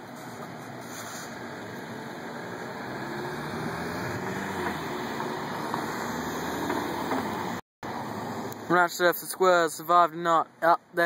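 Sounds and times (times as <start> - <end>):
motor vehicle rumble: 0.0 - 9.1.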